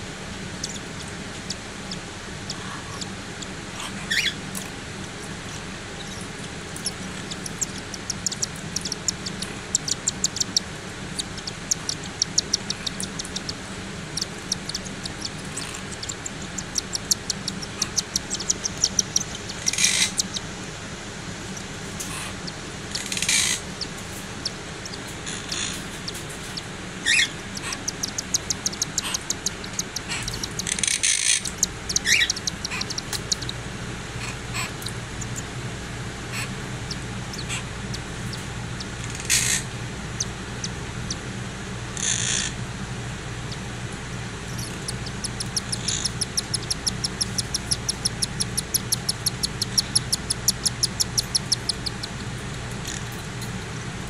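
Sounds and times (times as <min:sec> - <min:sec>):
steady low hum: 0:00.0 - 0:54.0
chicks chirping rapidly: 0:00.4 - 0:41.2, 0:44.3 - 0:53.7
chicks squealing: 0:00.4 - 0:41.2, 0:44.4 - 0:53.6.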